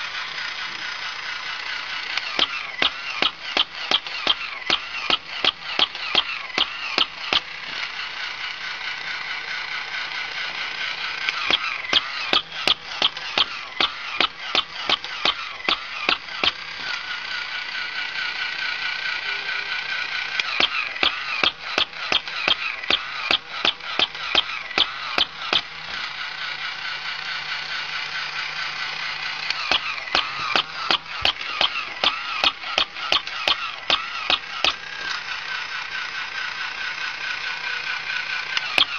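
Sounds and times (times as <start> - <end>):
toy gears clicking: 0.0 - 38.9
toy motor whirring: 0.0 - 38.9.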